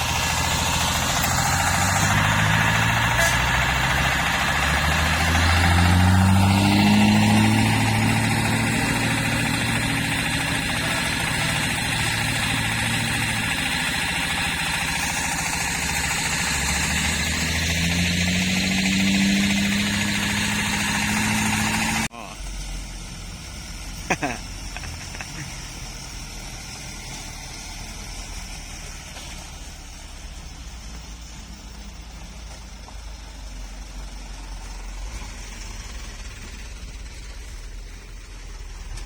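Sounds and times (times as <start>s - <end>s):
diesel truck engine revving: 0.0s - 39.0s.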